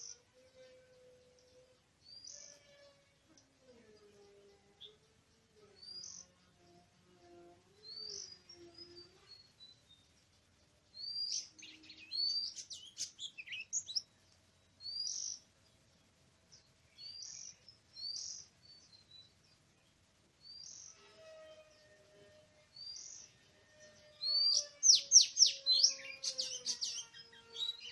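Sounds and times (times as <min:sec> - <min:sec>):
bird singing sweet notes: 0:00.0 - 0:02.6, 0:03.3 - 0:27.9.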